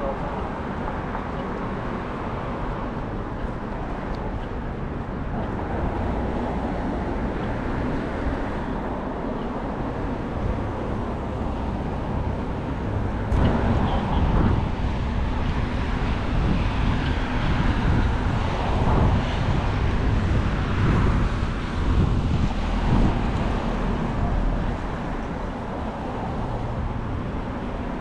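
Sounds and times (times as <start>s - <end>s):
passing cars: 0.0s - 28.0s.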